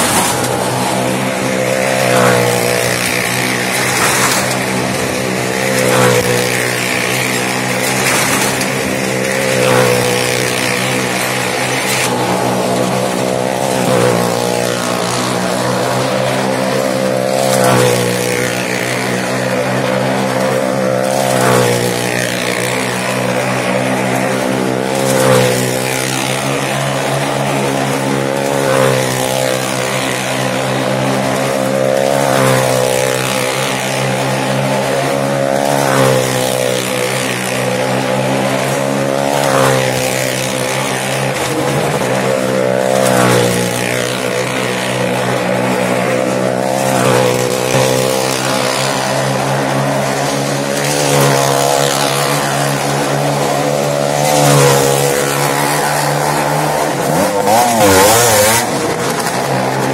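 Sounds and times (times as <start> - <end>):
vehicle engine circling: 0.0 - 59.9.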